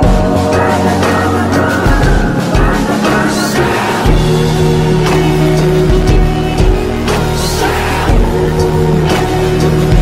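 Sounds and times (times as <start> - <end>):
loud electronic music: 0.0 - 10.0.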